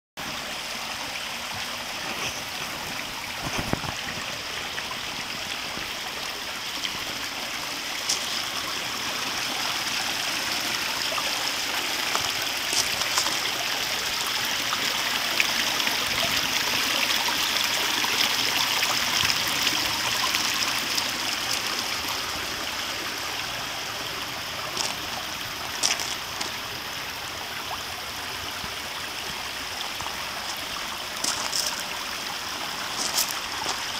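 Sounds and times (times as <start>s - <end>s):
water running into a pond: 0.2s - 33.9s.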